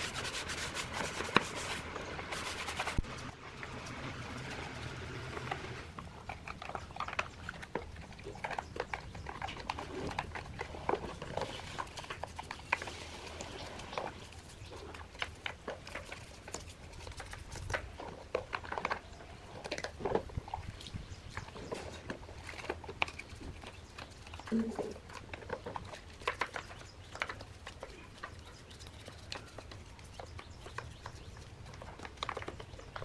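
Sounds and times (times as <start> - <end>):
rubbing and scraping on plastic: 0.0 - 33.0.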